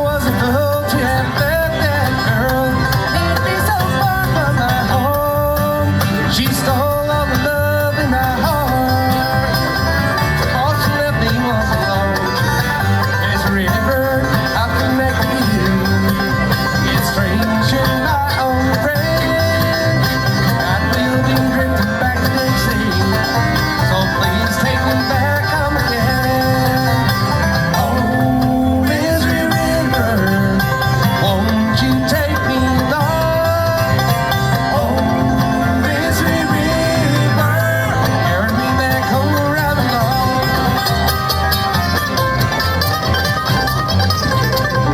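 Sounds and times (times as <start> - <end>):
person singing: 0.0 - 41.5
banjo: 0.0 - 44.9
guitar: 0.0 - 44.9.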